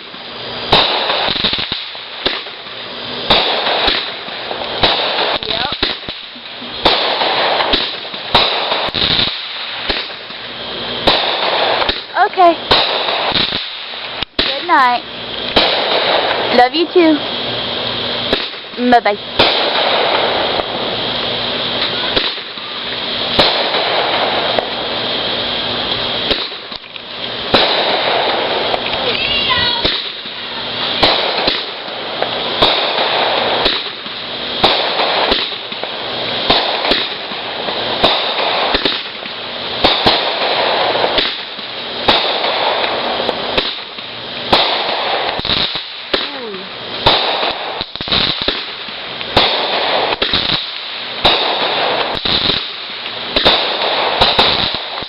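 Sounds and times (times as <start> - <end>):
firework whistle: 0.0 - 55.0
fireworks bangs: 0.0 - 55.0
fireworks crackling: 0.0 - 55.0.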